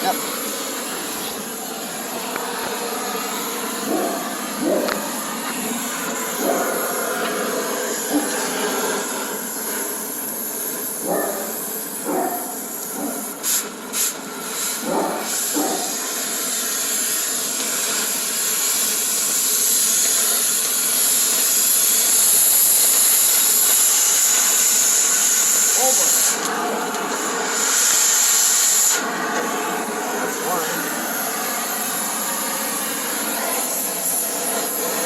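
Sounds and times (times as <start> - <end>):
cutting torch hissing: 0.0 - 35.0.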